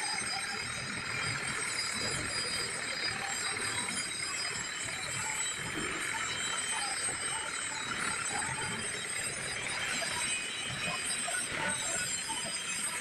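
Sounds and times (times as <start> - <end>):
faint high-pitched whining tones: 0.0 - 13.0
steady mechanical noise: 0.0 - 13.0.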